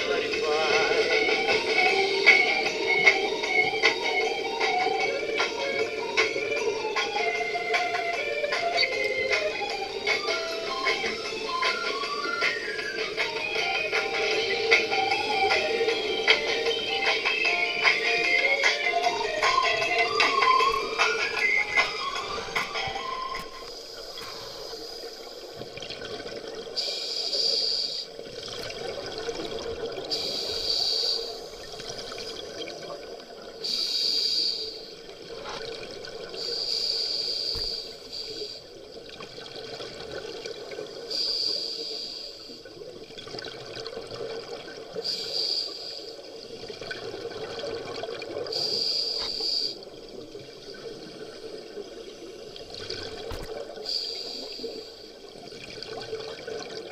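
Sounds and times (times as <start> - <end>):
exhaled bubbles gurgling: 0.0 - 26.9, 28.1 - 30.6, 31.3 - 34.0, 34.9 - 36.8, 38.6 - 41.3, 42.5 - 45.2, 46.2 - 49.0, 49.8 - 56.9
dull underwater hum: 0.0 - 56.9.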